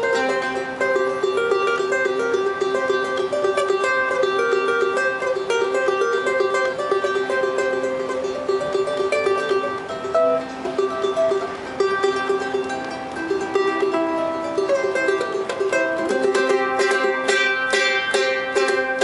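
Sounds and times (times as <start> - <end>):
ukulele plucked and strummed: 0.0 - 19.0.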